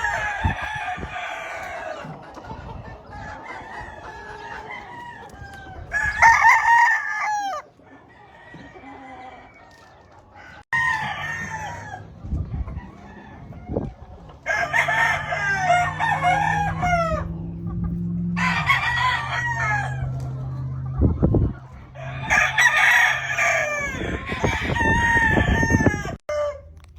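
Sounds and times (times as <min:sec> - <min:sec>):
roosters crowing: 0:00.0 - 0:26.9.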